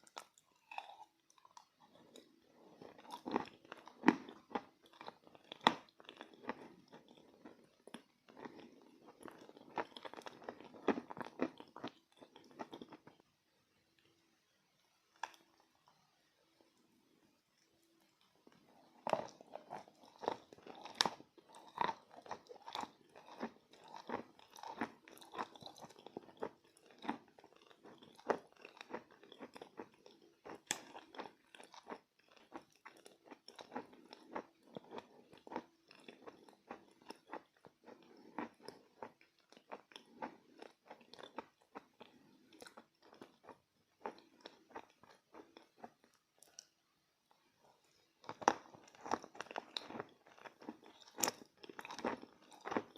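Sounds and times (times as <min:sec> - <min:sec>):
chewing chalk crunches: 0:00.0 - 0:13.2, 0:18.4 - 0:46.7, 0:47.8 - 0:52.9.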